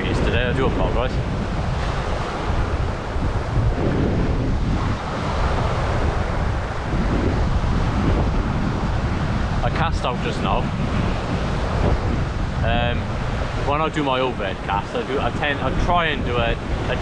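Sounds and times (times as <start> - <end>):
sea waves breaking on shore: 0.0 - 17.0
wind buffeting microphone: 0.0 - 17.0.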